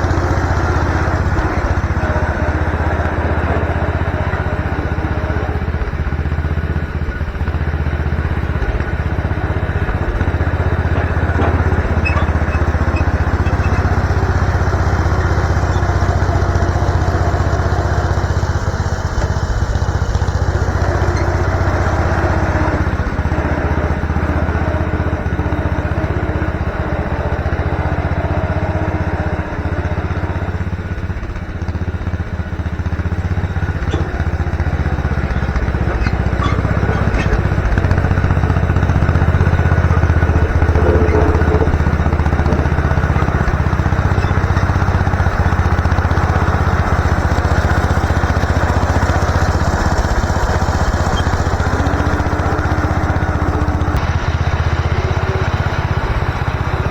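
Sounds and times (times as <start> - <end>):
garden tractor engine running: 0.0 - 56.9.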